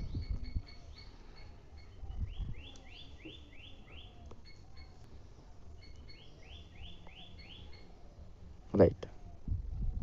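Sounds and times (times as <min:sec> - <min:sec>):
birds chirping: 0:00.0 - 0:09.4.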